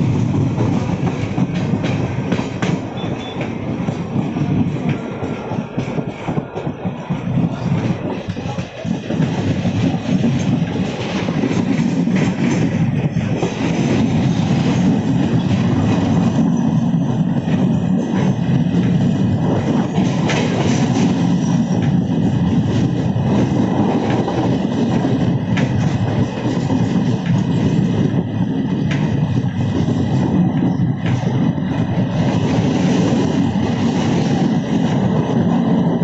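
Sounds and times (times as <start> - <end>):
train rolling rumble: 0.0 - 36.0.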